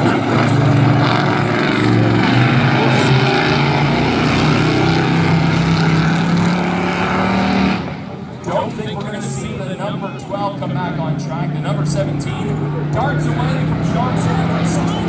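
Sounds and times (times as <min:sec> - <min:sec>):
racing truck engines: 0:00.0 - 0:15.0.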